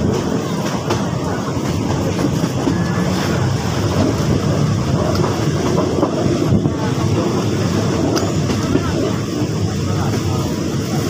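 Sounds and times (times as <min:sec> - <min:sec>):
train carriage rumble and rattle: 0:00.0 - 0:11.0
train wheel clicks: 0:00.0 - 0:11.0.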